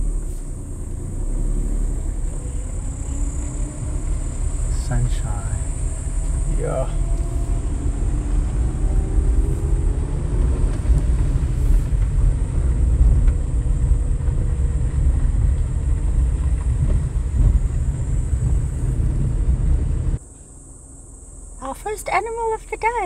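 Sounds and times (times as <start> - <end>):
vehicle driving on gravel: 0.0 - 20.2.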